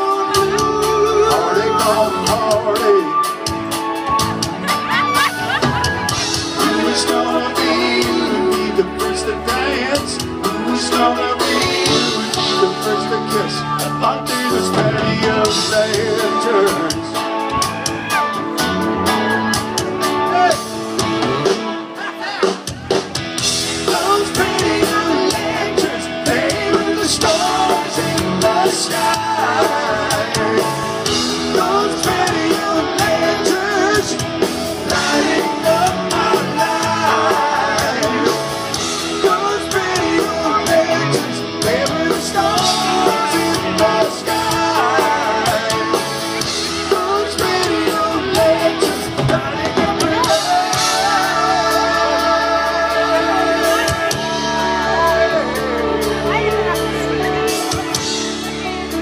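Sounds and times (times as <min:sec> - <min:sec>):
man singing: 0:00.0 - 0:03.7, 0:06.1 - 0:17.8, 0:23.4 - 0:58.3
electric guitar: 0:00.0 - 0:59.0
live rock band: 0:00.0 - 0:59.0.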